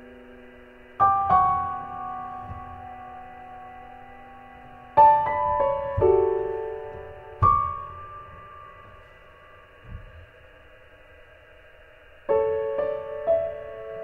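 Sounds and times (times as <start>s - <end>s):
slow piano chords: 0.0s - 10.8s, 12.2s - 14.0s.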